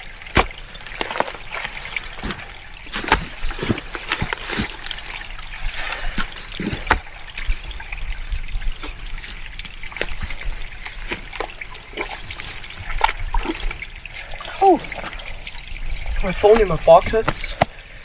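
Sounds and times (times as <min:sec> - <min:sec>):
stream trickling: 0:00.0 - 0:18.0.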